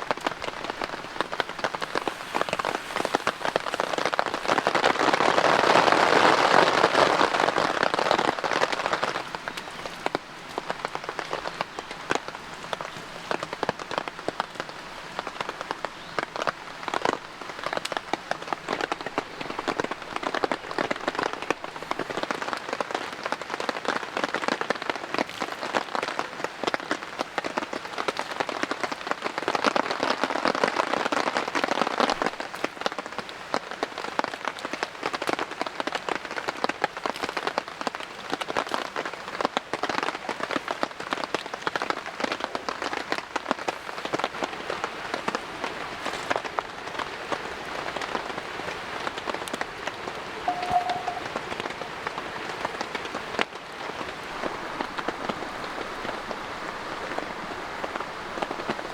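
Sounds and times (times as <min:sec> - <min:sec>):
rain drops pattering: 0:00.0 - 0:58.9.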